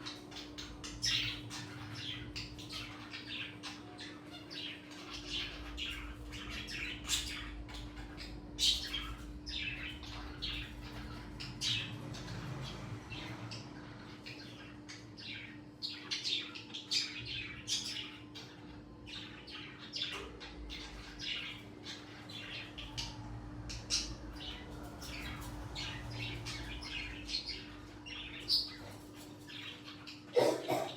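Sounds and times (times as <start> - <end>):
small birds chirping and squawking: 0.0 - 30.9
steady low hum: 0.0 - 30.9.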